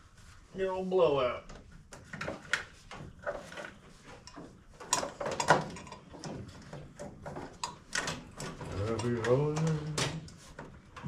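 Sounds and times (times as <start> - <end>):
clicks and knocks of parts handled: 1.5 - 11.0.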